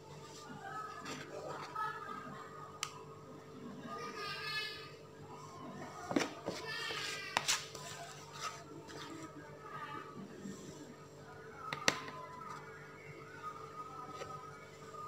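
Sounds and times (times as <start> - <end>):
faint background voices: 0.0 - 15.0.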